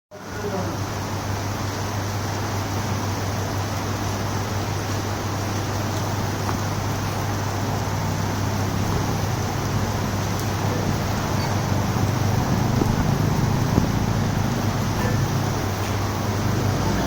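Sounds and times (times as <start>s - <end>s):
heavy rain hissing: 0.2s - 17.0s.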